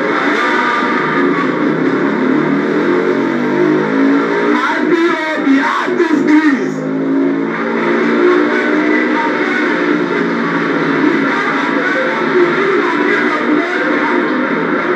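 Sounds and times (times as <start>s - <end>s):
vehicle engine revving: 0.0s - 14.9s.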